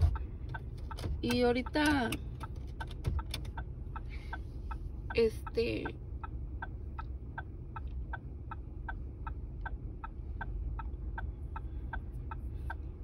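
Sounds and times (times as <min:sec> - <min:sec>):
car engine idling: 0:00.0 - 0:13.0
turn signal ticking: 0:00.0 - 0:13.0.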